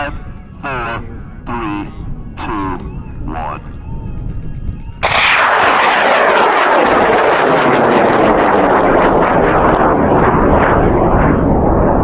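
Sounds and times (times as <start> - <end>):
rocket motors roaring: 0.0 - 12.0.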